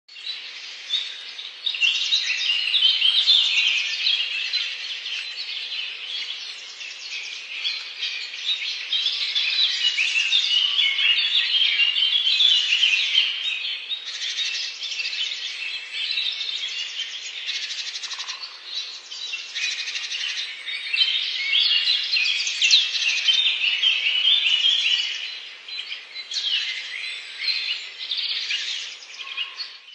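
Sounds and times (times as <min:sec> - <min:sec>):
songbirds chirping and trilling: 0:00.1 - 0:29.9.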